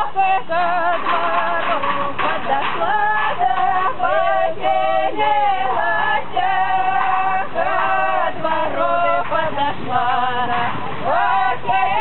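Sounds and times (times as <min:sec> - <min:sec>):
female voices singing: 0:00.0 - 0:12.0.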